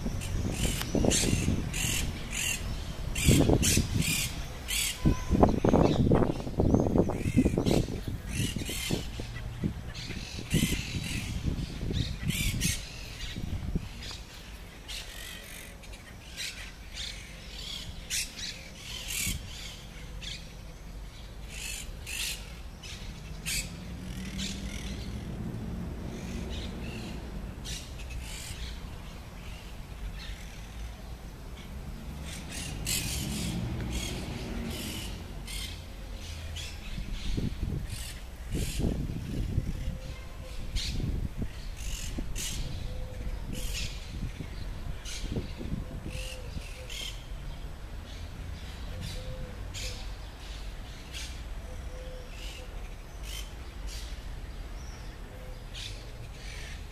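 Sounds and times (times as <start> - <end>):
birds chirping and squawking: 0.0 - 54.2, 54.8 - 56.9.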